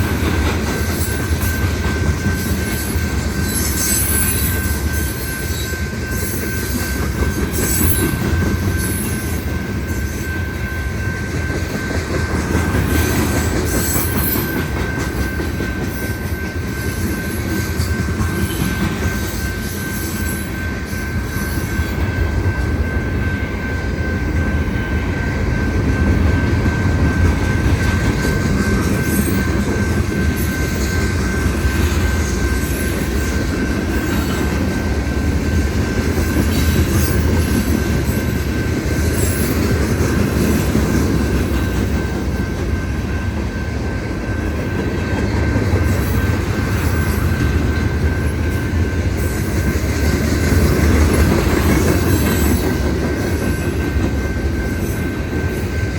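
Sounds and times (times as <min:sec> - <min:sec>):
freight train rumbling past: 0:00.0 - 0:55.9
train wheel clatter: 0:00.0 - 0:55.9
train wheel squeal: 0:00.0 - 0:55.9.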